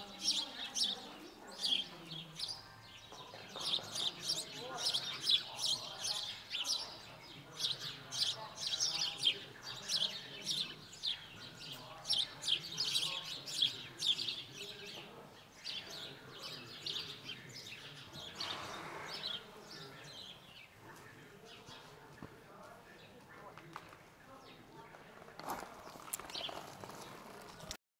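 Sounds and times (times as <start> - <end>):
small birds chirping: 0.0 - 27.8.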